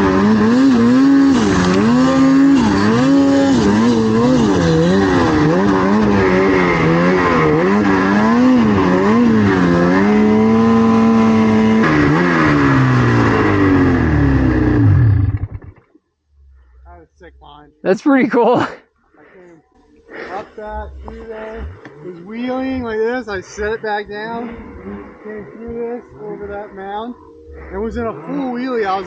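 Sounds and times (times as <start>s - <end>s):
snowmobile engine revving: 0.0s - 15.8s, 20.1s - 29.0s.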